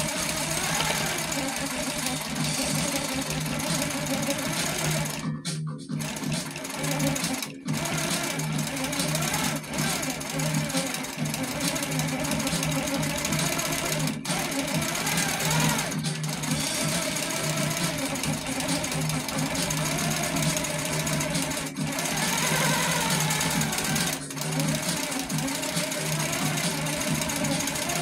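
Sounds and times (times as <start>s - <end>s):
quilting machine stitching: 0.0s - 28.0s.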